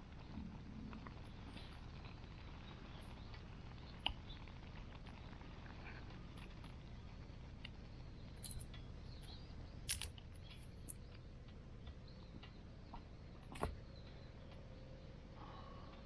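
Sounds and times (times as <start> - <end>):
low steady background noise: 0.0 - 16.0
sharp clicks and cracks: 0.1 - 14.7.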